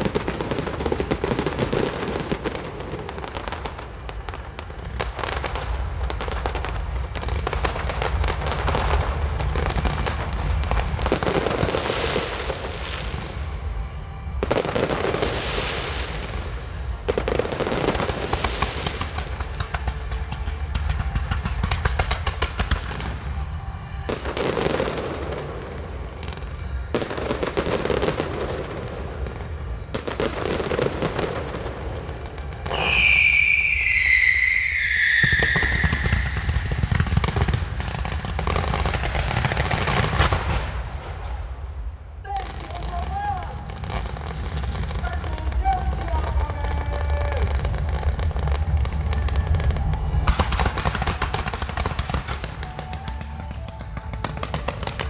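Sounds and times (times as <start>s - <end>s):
fireworks crackling and booming: 0.0s - 55.0s.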